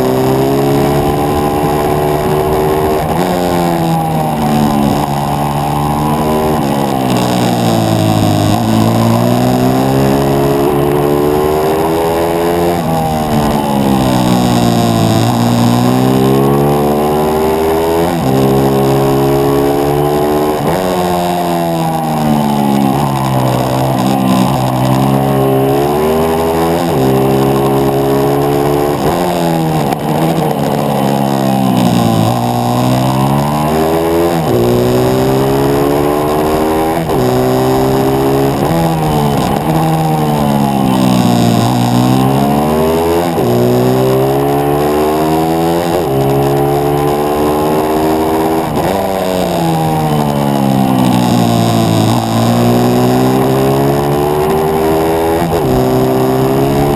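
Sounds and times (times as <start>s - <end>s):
motorbike engine accelerating: 0.0s - 56.9s.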